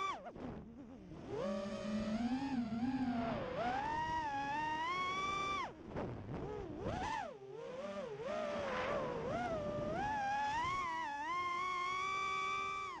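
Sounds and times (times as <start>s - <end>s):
drone motors whining: 0.0s - 5.8s, 6.4s - 13.0s.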